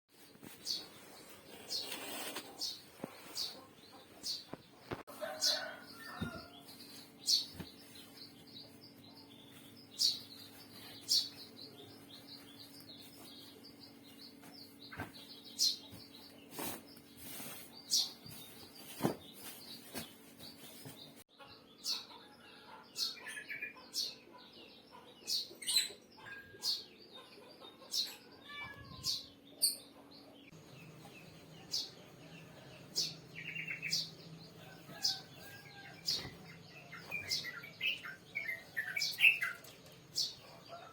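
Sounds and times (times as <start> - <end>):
small birds chirping: 0.1 - 40.9.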